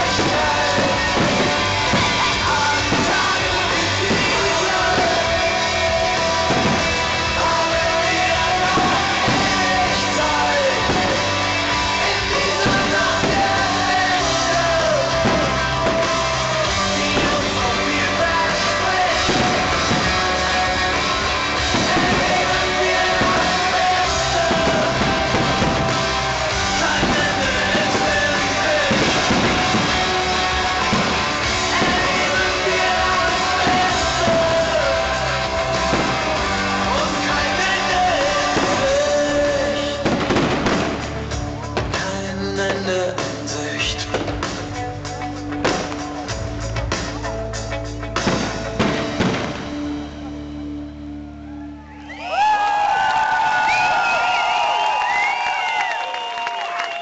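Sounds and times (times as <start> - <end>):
song with singing over a beat: 0.0 - 49.9.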